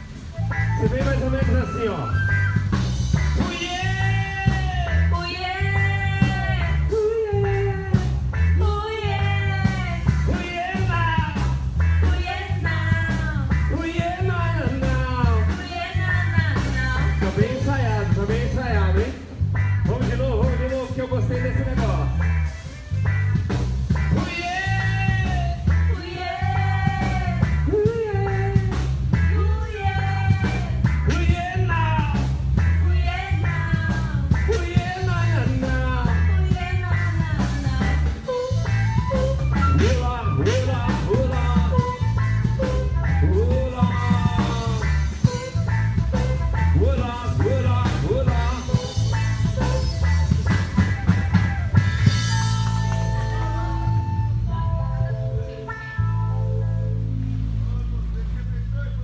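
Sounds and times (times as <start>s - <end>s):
heavy bass beat: 0.0s - 59.0s
person singing: 3.4s - 19.1s, 24.1s - 56.0s.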